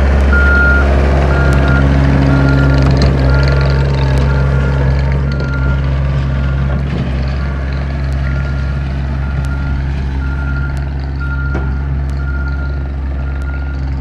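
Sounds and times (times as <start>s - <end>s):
loader engine running: 0.0s - 14.0s
reversing alarm beeping: 0.3s - 6.8s, 8.2s - 14.0s.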